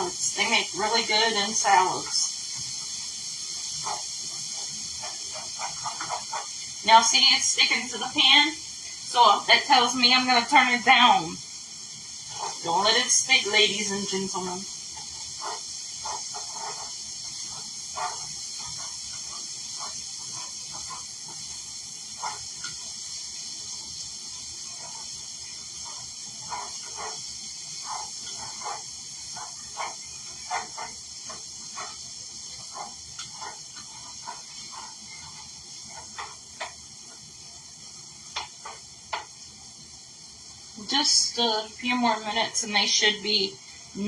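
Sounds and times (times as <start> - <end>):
chickpeas sizzling in a pan: 0.0 - 44.0
frying pops and clicks: 0.0 - 44.0.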